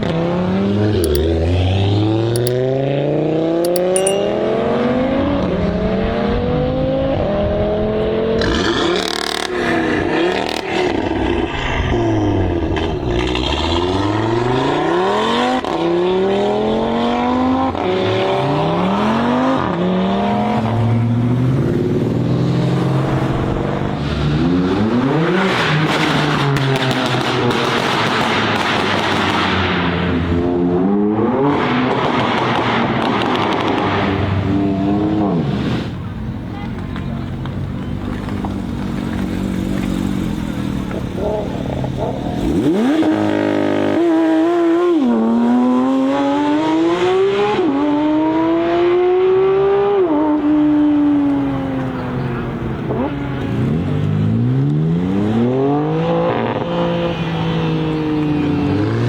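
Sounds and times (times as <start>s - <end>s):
car engines revving and accelerating: 0.0s - 59.0s
cars sweeping past: 0.0s - 59.0s.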